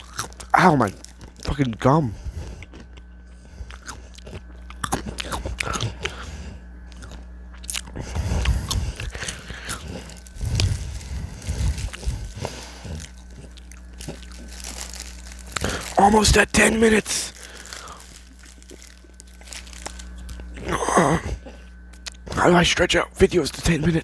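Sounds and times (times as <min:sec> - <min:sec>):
crunching and chewing chips: 0:00.0 - 0:24.0.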